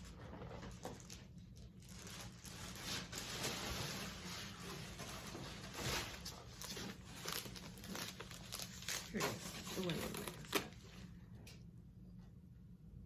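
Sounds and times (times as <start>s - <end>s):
rustling and crinkling handling: 0.0s - 11.4s.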